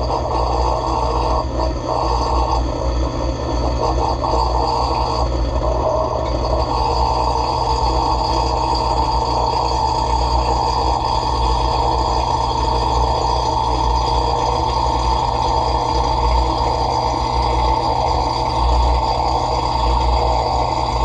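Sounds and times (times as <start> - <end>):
dishwasher motor hum: 0.0 - 21.0.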